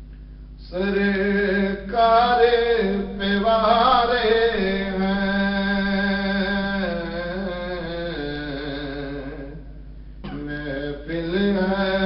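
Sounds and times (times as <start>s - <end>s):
steady low hum: 0.0s - 12.0s
man chanting: 0.6s - 12.0s.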